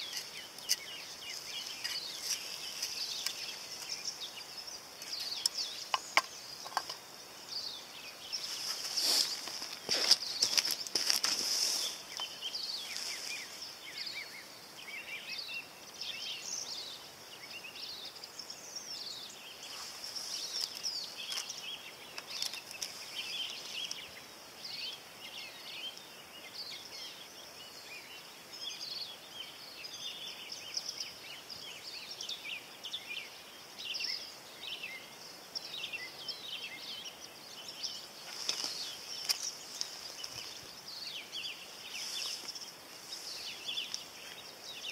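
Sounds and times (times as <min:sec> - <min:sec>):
birds chirping and calling: 0:00.0 - 0:44.9
steady high hiss: 0:00.0 - 0:44.9.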